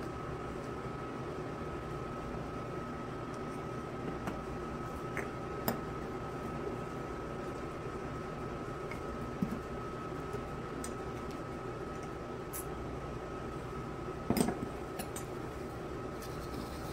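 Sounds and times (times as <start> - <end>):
background hum: 0.0 - 16.9.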